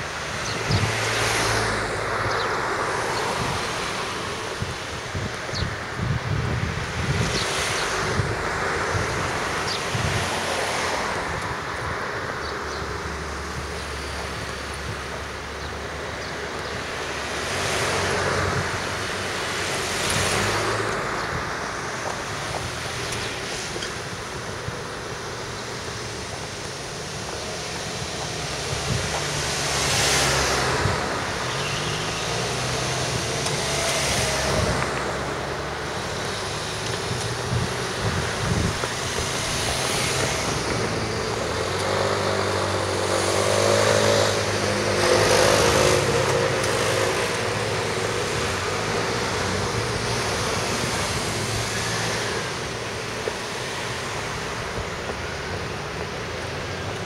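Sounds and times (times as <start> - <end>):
vehicles passing: 0.0 - 57.0
wind noise on microphone: 0.0 - 57.0.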